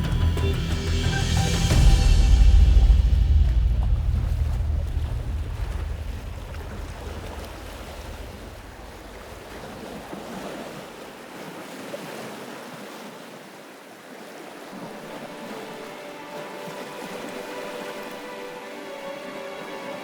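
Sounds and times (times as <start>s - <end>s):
wind: 0.0s - 20.0s
waves washing on shore: 2.0s - 20.0s.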